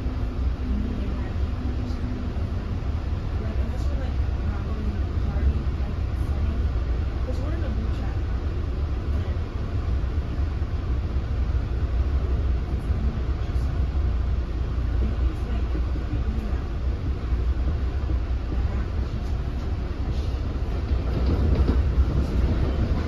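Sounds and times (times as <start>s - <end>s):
train coach rumbling on track: 0.0s - 23.0s.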